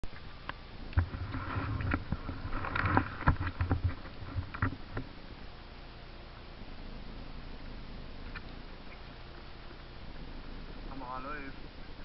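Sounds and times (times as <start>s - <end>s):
noisy rush: 0.0s - 12.0s.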